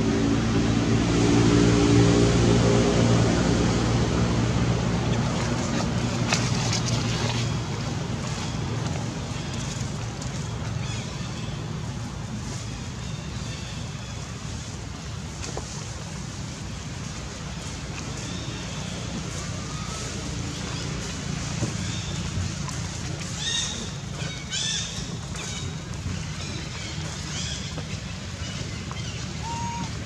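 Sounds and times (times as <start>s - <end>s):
motor engine humming: 0.0s - 30.0s.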